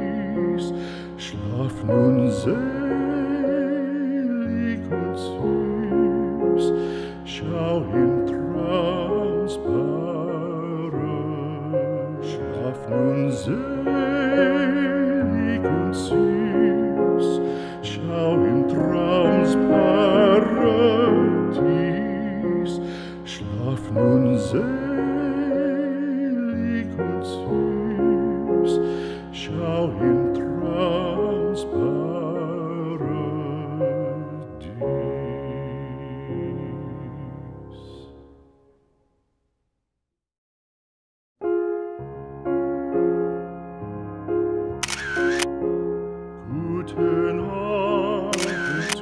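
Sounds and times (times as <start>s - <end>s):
person singing with vibrato: 0.0s - 38.2s, 46.4s - 49.0s
slow gentle song: 0.0s - 39.1s, 41.4s - 49.0s.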